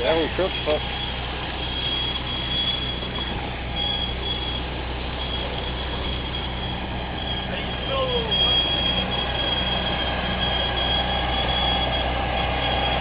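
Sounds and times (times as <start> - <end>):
faint high-pitched beeping: 0.0 - 13.0
truck engine idling: 0.0 - 13.0.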